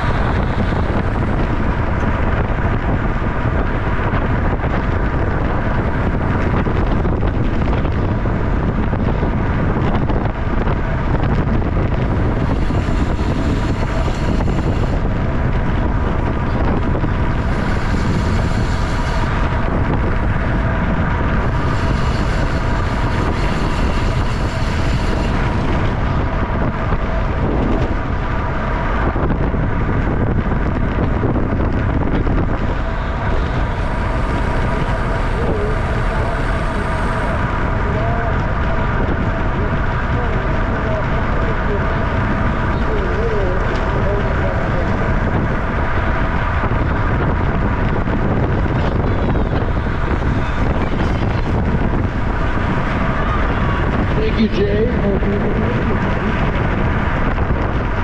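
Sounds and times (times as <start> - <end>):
bicycle tyre and road noise: 0.0 - 58.0
wind rushing on microphone: 0.0 - 58.0.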